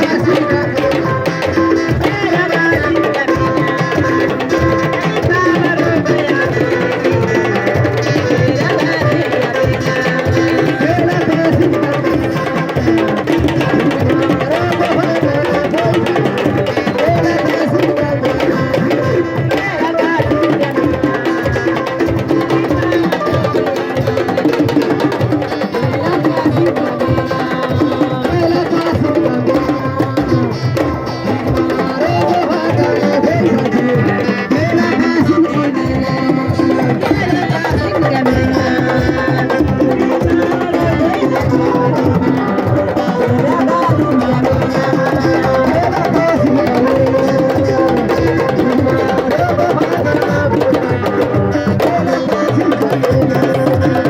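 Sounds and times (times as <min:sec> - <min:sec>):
hand drums playing rhythm: 0:00.0 - 0:54.0.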